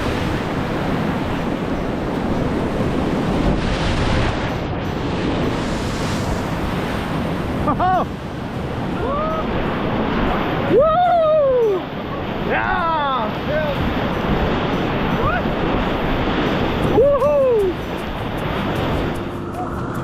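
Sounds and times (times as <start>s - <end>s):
river whitewater rushing: 0.0s - 20.0s
wind buffeting microphone: 0.0s - 20.0s.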